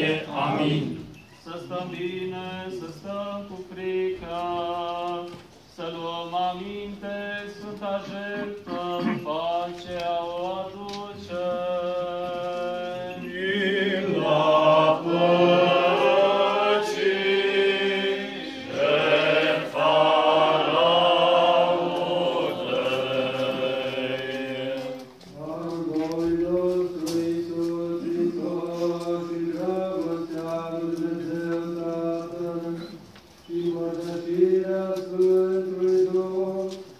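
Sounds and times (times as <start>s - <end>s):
male voices chanting in harmony: 0.0s - 36.9s.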